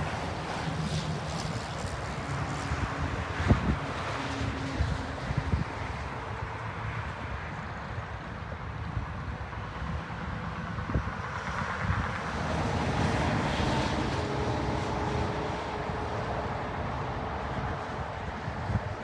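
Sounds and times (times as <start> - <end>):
jet aircraft engine: 0.0 - 19.0
wind buffeting microphone: 0.0 - 19.0.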